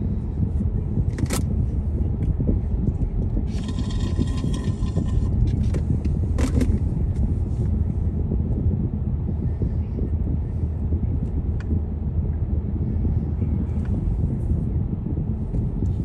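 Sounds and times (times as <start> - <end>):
tyre and engine rumble: 0.0 - 16.0.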